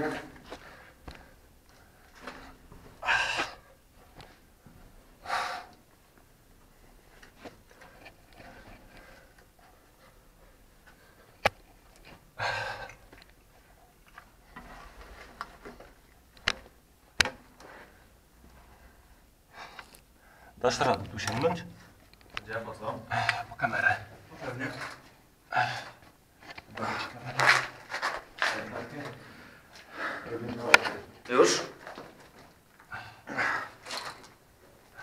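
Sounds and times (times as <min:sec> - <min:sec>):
people crawling through concrete pipe: 0:00.0 - 0:05.9, 0:06.6 - 0:16.8, 0:17.4 - 0:35.0.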